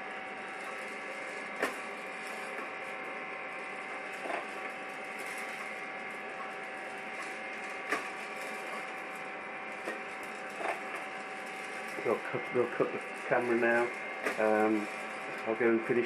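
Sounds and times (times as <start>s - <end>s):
coffee beans tumbling in drum: 0.0s - 16.0s
motor and fan humming: 0.0s - 16.0s.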